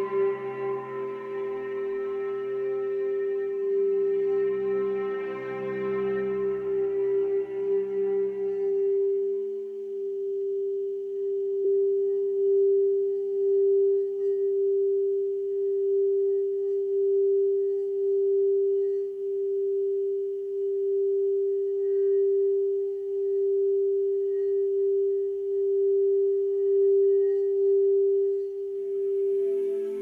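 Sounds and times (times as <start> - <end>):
crystal singing bowl tone: 0.0 - 30.0.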